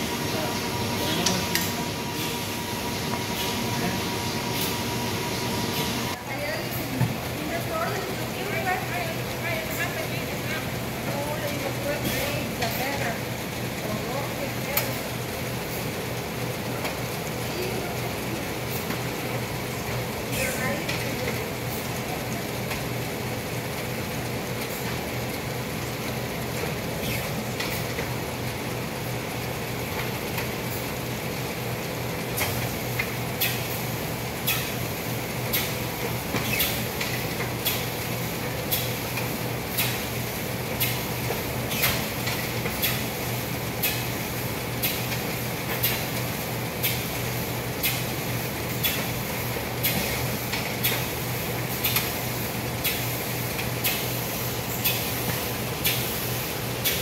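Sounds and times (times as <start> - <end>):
paper feeding through rollers: 0.0 - 57.0
printing press humming: 0.0 - 57.0.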